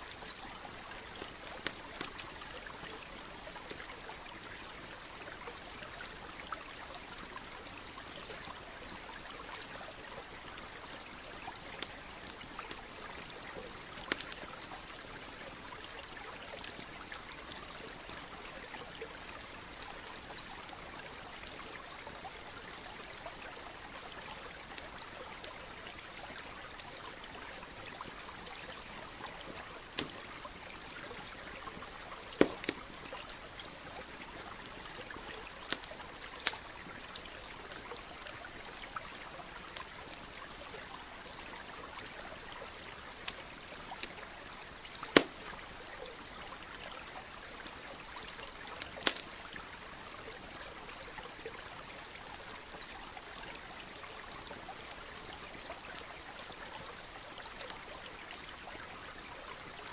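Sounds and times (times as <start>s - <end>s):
campfire crackling: 0.0s - 59.9s
stream flowing: 0.0s - 59.9s.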